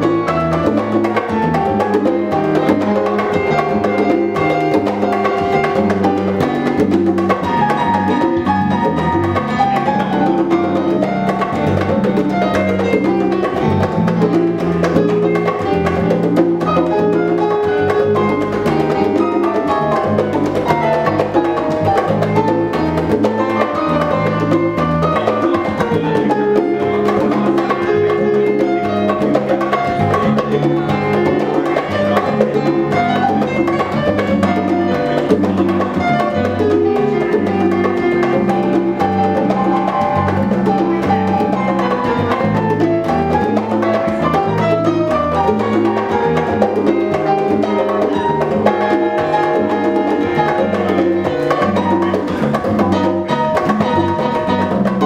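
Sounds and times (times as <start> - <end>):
bass line: 0.0 - 55.0
congas and bongos: 0.0 - 55.0
drum kit: 0.0 - 55.0
piano: 0.0 - 55.0.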